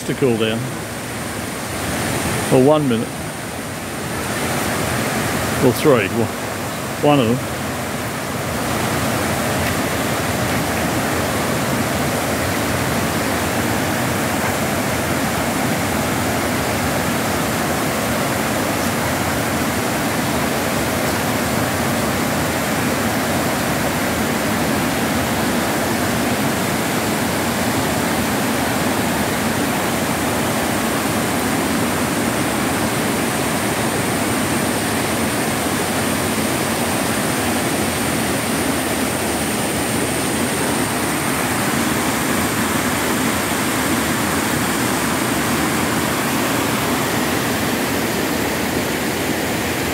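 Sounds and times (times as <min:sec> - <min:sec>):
creek water rushing over boulders: 0:00.0 - 0:49.9.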